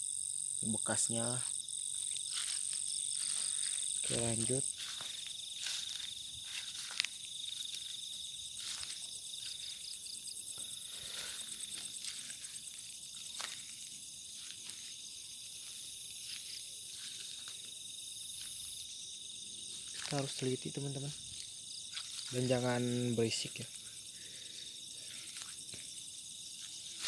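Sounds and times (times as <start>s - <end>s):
crickets and insects trilling: 0.0s - 27.0s
footsteps through undergrowth: 1.6s - 27.0s.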